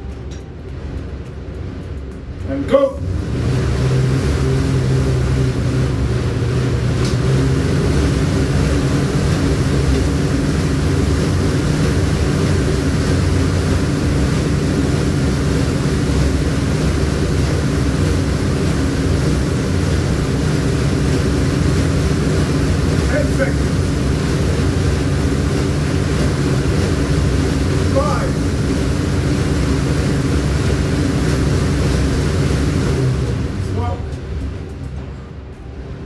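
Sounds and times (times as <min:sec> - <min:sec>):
air bike fan whirring: 0:00.0 - 0:36.0.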